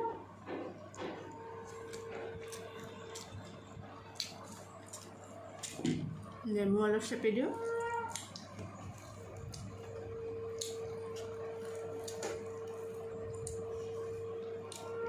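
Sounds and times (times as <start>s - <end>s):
steady humming tone: 0.0s - 15.0s.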